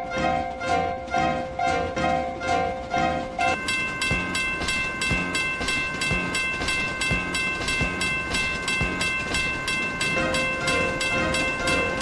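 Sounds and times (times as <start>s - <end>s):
rapid ticking: 0.0s - 12.0s.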